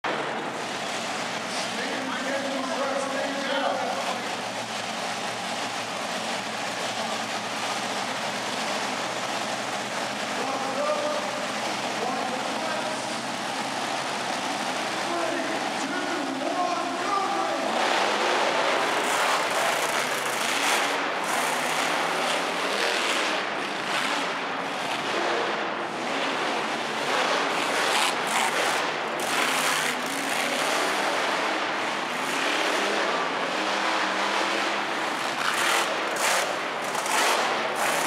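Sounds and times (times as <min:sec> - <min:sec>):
monster truck engines revving: 0:00.0 - 0:38.0.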